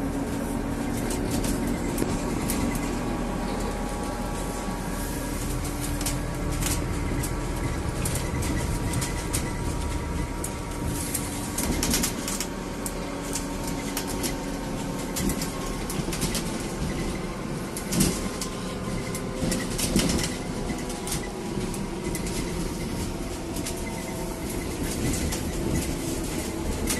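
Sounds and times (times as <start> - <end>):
bus engine and road rumble: 0.0 - 26.9.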